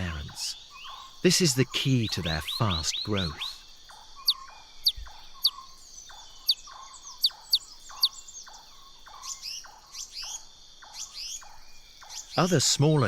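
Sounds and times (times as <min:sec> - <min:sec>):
bird calling: 0:00.0 - 0:13.0
insect chorus: 0:00.0 - 0:13.0.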